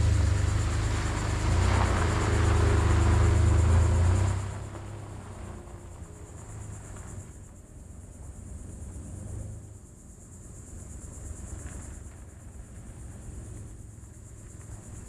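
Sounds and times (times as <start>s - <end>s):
insects chirring: 0.0s - 15.0s
low steady rumble: 0.0s - 15.0s.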